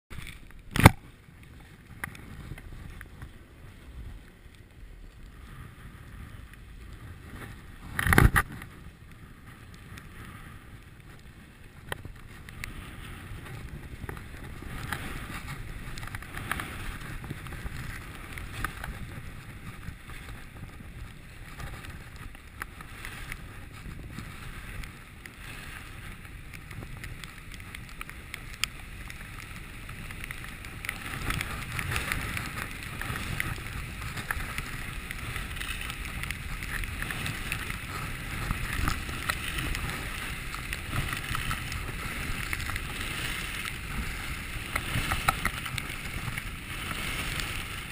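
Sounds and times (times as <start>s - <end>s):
skis scraping over snow: 0.1s - 47.9s
wind on microphone: 0.1s - 47.9s.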